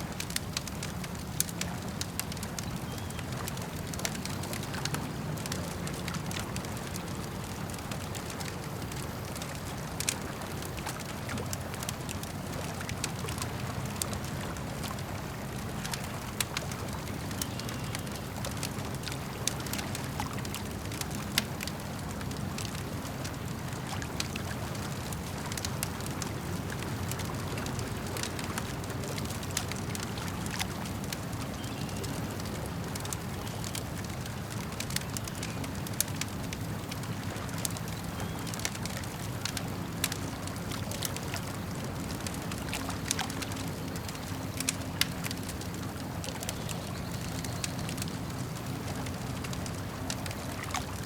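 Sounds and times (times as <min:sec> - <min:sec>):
campfire crackling and popping: 0:00.0 - 0:51.0
lake water lapping: 0:00.0 - 0:51.0.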